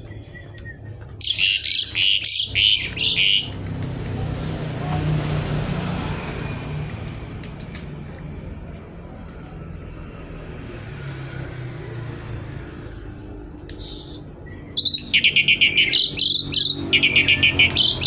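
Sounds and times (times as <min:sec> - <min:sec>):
passing vehicle engine rumble: 0:00.0 - 0:18.0.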